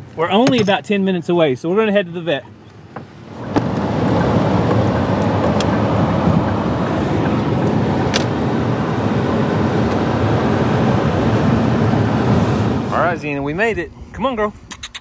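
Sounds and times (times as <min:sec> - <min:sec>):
truck road and engine noise: 0:00.0 - 0:13.4.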